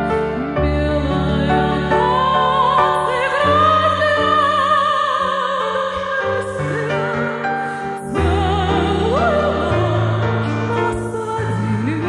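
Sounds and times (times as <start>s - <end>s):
piano chords: 0.0s - 12.0s
woman singing operatically: 0.4s - 12.0s.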